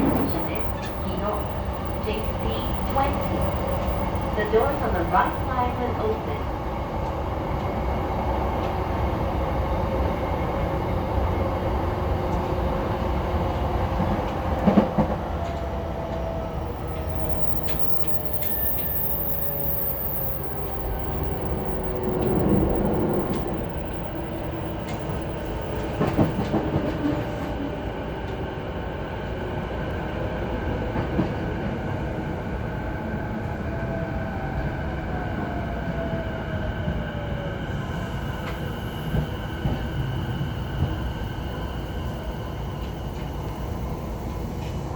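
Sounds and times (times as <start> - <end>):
train wheel and running noise: 0.0 - 44.9.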